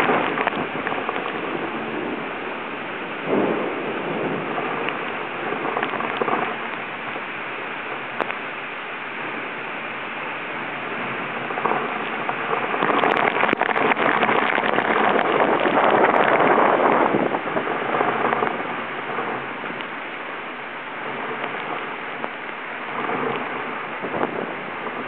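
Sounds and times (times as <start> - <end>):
wind and rain on microphone: 0.0 - 25.0.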